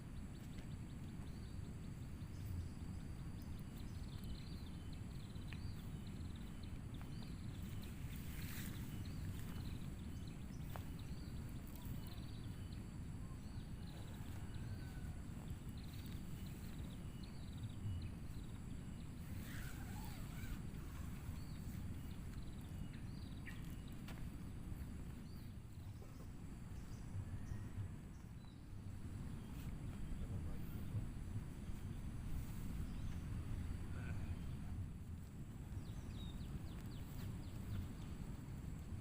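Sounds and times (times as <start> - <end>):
steady low rumble: 0.0 - 39.0.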